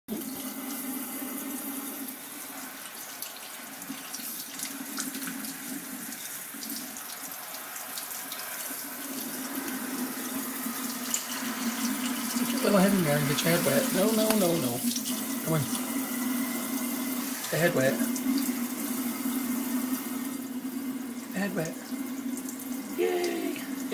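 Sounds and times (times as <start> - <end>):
tap water running into sink: 0.1 - 23.9.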